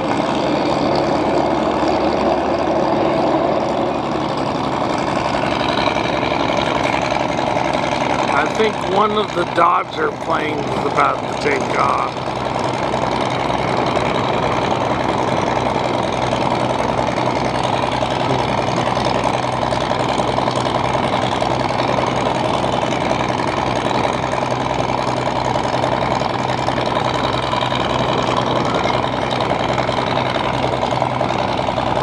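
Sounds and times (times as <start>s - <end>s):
aircraft piston engine idling: 0.0s - 32.0s.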